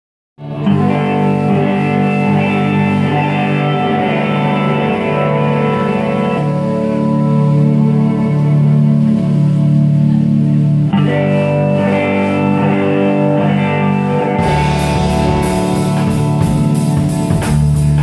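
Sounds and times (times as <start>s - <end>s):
electric guitar ringing chords: 0.4s - 18.0s.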